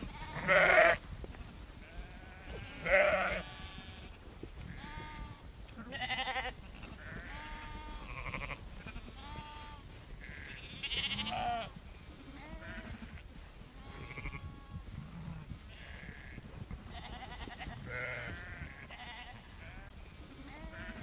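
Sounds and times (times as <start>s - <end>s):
sheep bleating: 0.0s - 1.0s, 1.8s - 4.1s, 4.7s - 21.0s.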